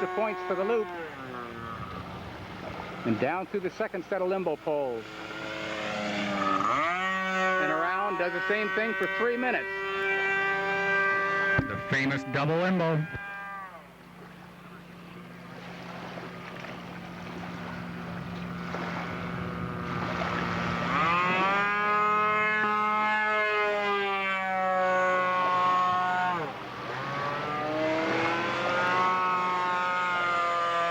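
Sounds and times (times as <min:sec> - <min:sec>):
model aircraft engine: 0:00.0 - 0:30.9.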